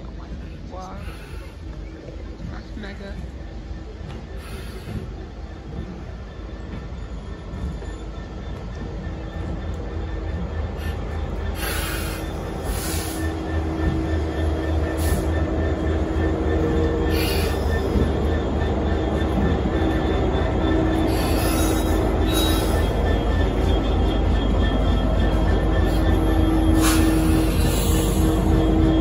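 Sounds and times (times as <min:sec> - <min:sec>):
diesel locomotive rumble: 0:00.0 - 0:29.0
high-pitched wheel squeals: 0:04.3 - 0:29.0.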